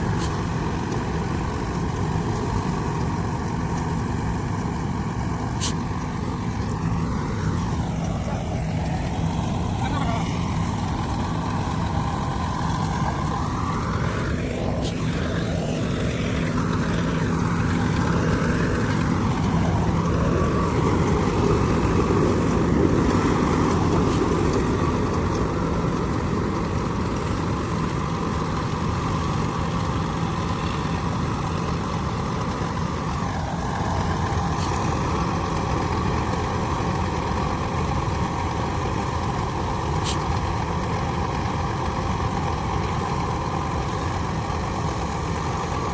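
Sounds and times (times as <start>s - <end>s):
combine harvester engine droning: 0.0s - 45.9s.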